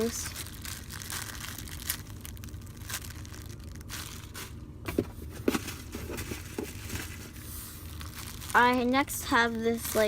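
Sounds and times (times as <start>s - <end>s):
crinkling and rustling of toys: 0.0s - 10.0s.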